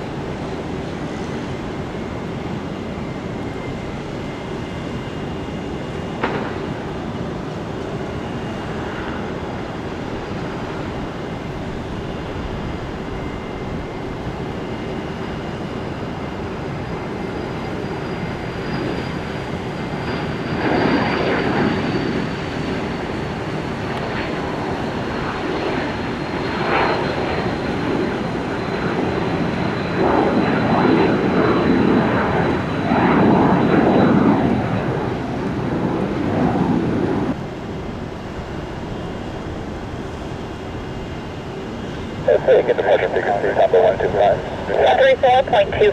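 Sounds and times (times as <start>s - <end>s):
jet engines rushing: 0.0s - 45.9s.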